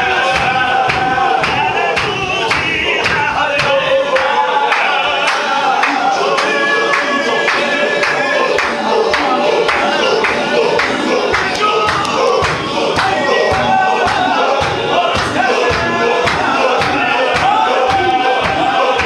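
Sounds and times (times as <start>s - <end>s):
sharp steady drum beat: 0.0s - 4.9s, 8.6s - 19.0s
men chanting in unison: 0.0s - 19.0s.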